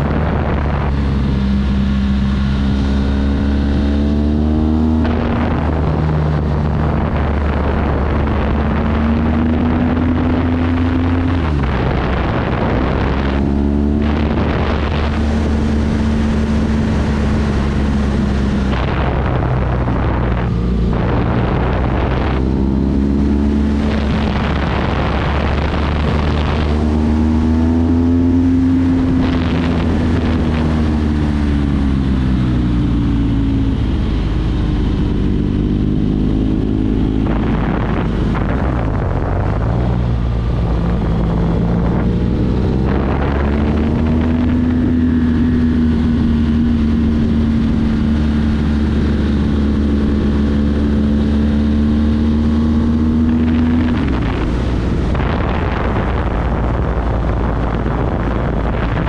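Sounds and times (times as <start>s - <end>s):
motorcycle engine running: 0.0s - 59.0s
rush of wind: 0.0s - 59.0s.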